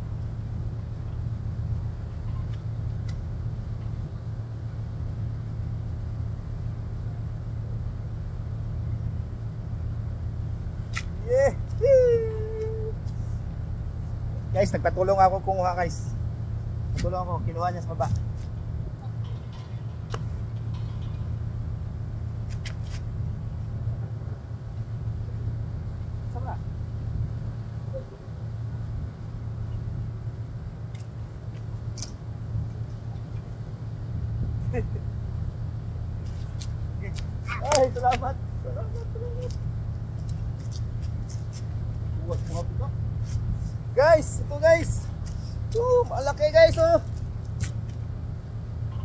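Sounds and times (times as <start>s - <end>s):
low engine hum: 0.0s - 49.0s
low mechanical rumble: 0.0s - 49.0s.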